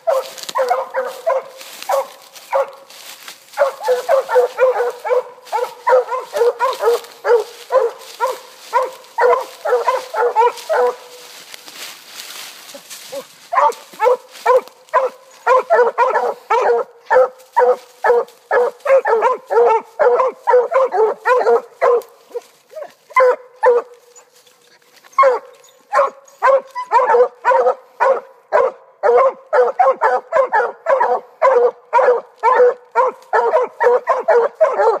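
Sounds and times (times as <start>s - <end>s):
hounds barking: 0.0s - 24.4s, 25.0s - 35.0s.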